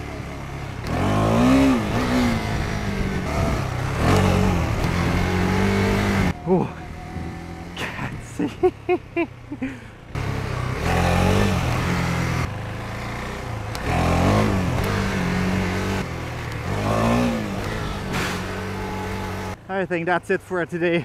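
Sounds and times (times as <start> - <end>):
motorcycle engine revving hard: 0.0 - 8.0, 10.1 - 19.6.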